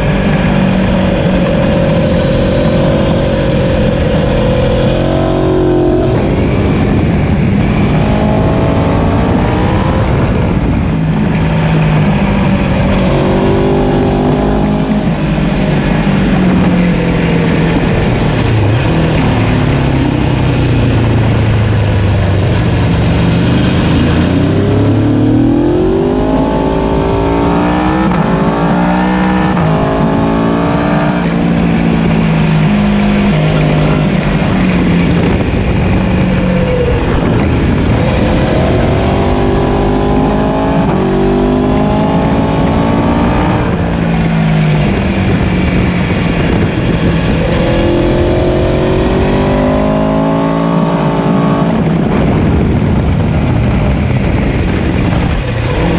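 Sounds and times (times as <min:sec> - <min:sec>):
motorcycle engine accelerating: 0:00.0 - 0:55.9
wind and road noise: 0:00.0 - 0:55.9.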